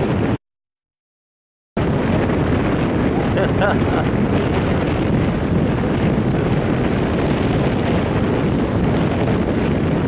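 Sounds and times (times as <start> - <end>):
wind buffeting microphone: 0.0 - 0.4, 1.8 - 10.0
ocean surf breaking: 1.8 - 10.0.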